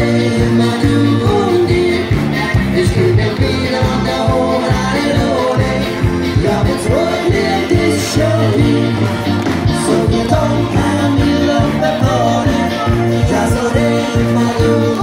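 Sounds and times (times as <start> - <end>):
electric guitars: 0.0 - 15.0
person singing: 0.0 - 15.0
steady drum beat: 0.0 - 15.0.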